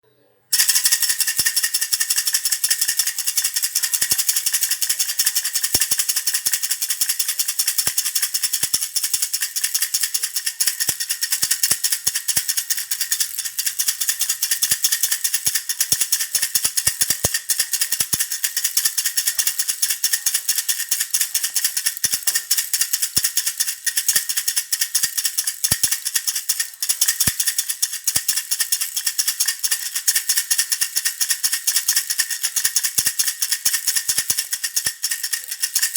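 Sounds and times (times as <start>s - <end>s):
baby rattle shaking: 0.5s - 35.9s.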